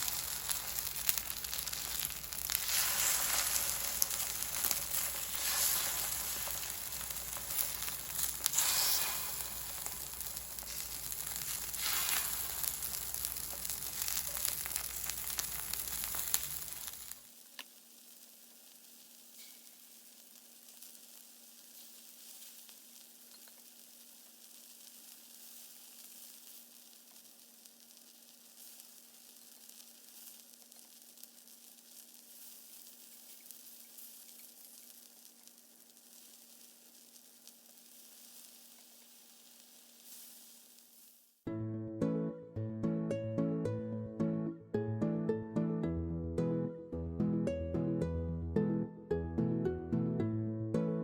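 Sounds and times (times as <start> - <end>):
food frying: 0.0 - 41.4.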